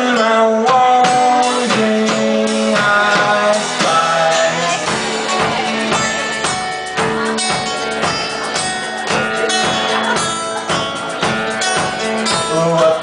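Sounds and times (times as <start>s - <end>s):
live band playing instrumental: 0.0s - 13.0s
strummed guitar: 0.0s - 13.0s.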